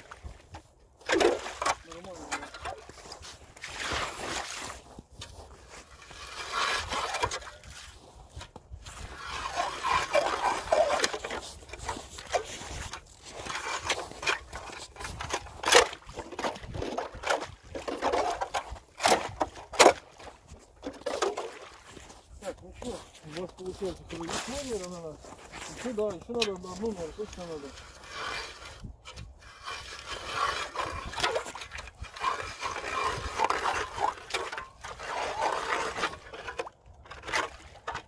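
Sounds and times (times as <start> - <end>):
ice auger grinding into ice: 0.1 - 4.9, 5.5 - 38.0
slush sloshing: 0.1 - 4.9, 5.6 - 8.0, 8.9 - 26.0, 29.4 - 38.0.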